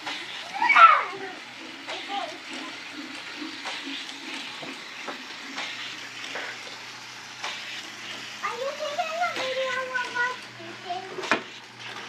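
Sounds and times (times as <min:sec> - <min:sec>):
toy trains rattling on plastic track: 0:00.0 - 0:12.0.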